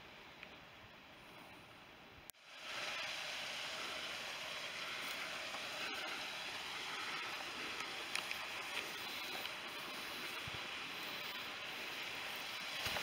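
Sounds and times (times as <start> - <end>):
faint hiss: 0.0 - 13.0
stream flowing over rocks: 2.4 - 13.0.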